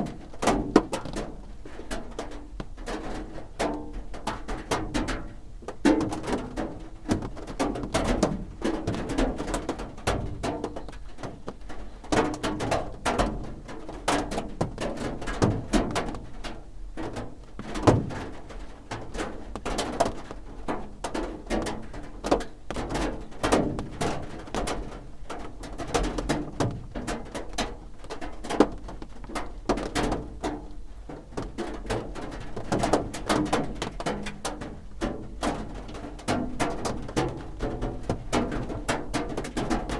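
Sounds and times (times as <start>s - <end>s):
rain drumming on a roof: 0.0s - 39.9s.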